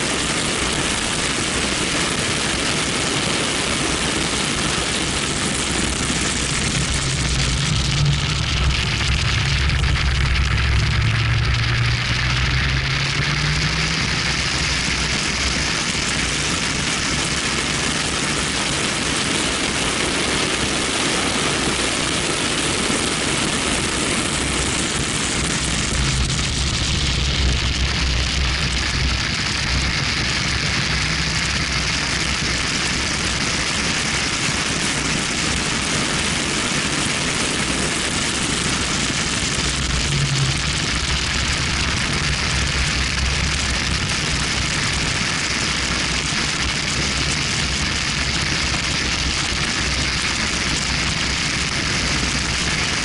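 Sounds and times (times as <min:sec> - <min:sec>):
heavy wind rush: 0:00.0 - 0:53.0
car engine and tyres droning: 0:00.1 - 0:53.0.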